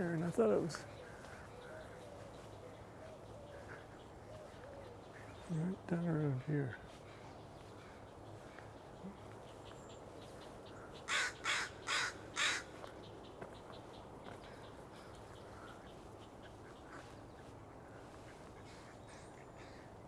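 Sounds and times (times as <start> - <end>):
bird harsh raspy calls: 0.0 - 20.0.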